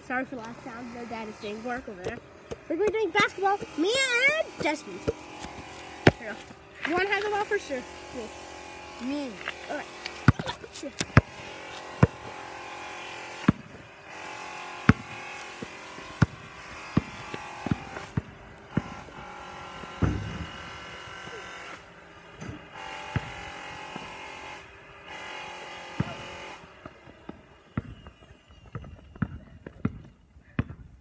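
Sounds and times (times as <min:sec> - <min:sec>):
basketball bouncing: 0:01.3 - 0:07.7, 0:09.0 - 0:21.6, 0:22.4 - 0:24.3, 0:25.9 - 0:31.0.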